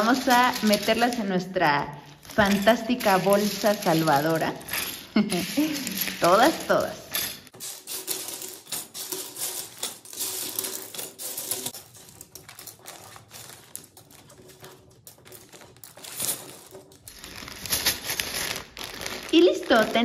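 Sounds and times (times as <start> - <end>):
plastic bricks clattering: 0.0 - 1.4, 2.2 - 20.0
plastic bag crinkling: 0.0 - 20.0.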